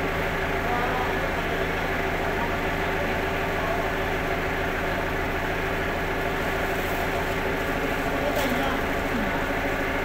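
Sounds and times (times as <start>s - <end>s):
forklift engine idling: 0.0s - 10.0s.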